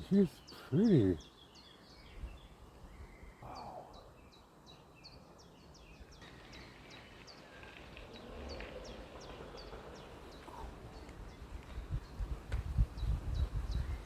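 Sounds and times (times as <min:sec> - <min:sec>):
bird chirping: 0:00.0 - 0:12.2.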